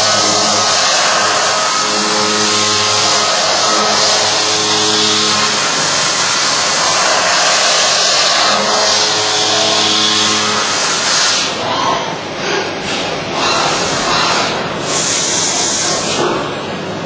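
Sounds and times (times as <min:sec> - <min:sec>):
machine hiss with low hum: 0:00.0 - 0:17.0.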